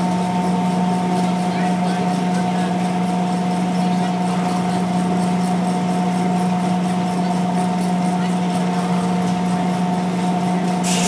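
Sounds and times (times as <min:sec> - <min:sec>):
steam engine running sawmill: 0:00.0 - 0:11.0.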